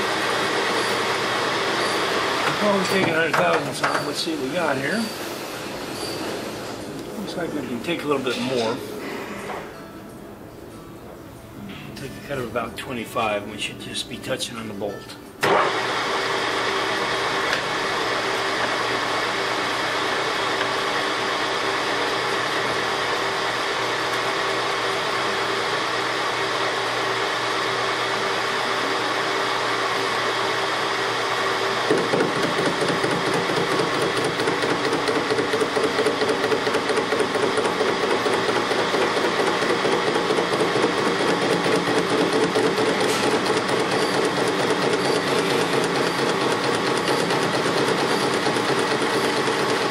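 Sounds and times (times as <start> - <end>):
lathe tool cutting pulsing: 0.0 - 6.0, 15.4 - 49.9
metal lathe running: 0.0 - 8.8, 15.4 - 49.9.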